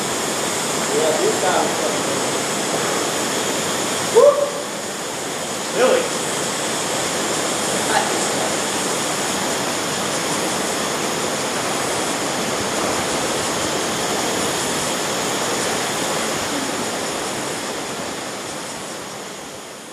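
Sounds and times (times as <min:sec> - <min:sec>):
river water rushing: 0:00.0 - 0:19.9.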